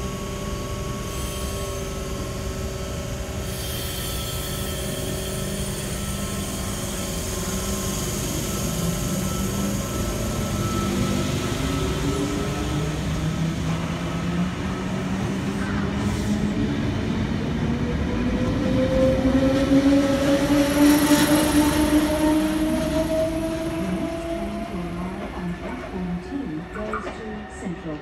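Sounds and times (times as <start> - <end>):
electric train motors whining: 0.0 - 16.5, 17.9 - 28.0
train wheels rumbling on track: 0.0 - 28.0.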